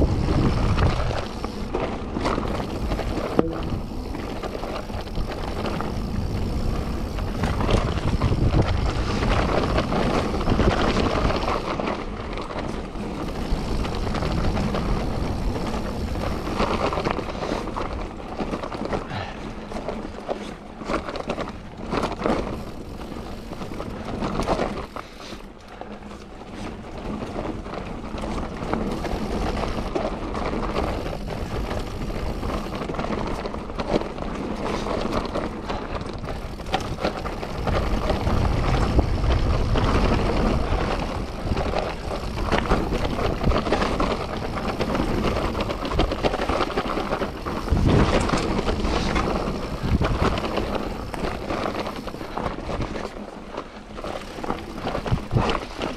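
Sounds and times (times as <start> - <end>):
wind buffeting microphone: 0.0 - 19.8, 26.8 - 55.9
bike clattering and rattling: 0.0 - 55.9
tyres rolling over stones: 0.0 - 55.9.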